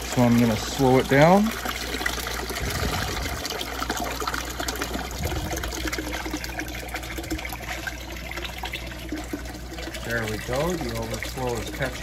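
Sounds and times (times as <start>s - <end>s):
low steady hum: 0.0s - 12.0s
water pouring into a tank: 0.0s - 12.0s.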